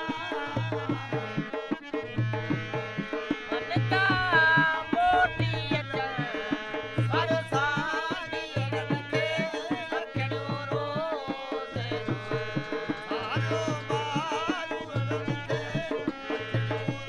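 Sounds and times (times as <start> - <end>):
harmonium melody: 0.0 - 17.0.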